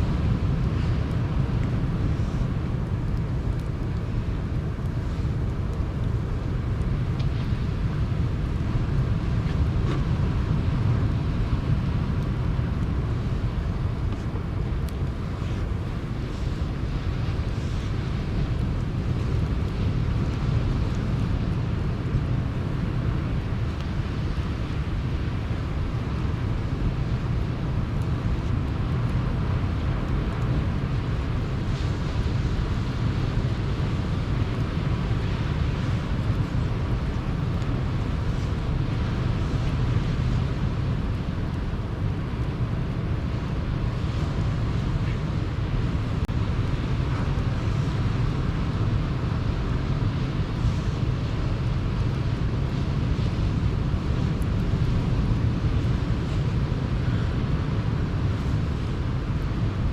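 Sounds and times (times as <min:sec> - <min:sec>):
campfire crackles: 0:00.0 - 0:59.9
sea waves washing ashore: 0:00.0 - 0:59.9.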